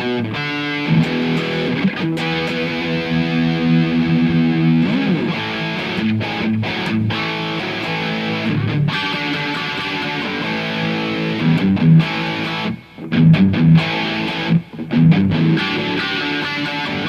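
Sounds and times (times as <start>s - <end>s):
electric guitar chords and notes: 0.0s - 17.0s.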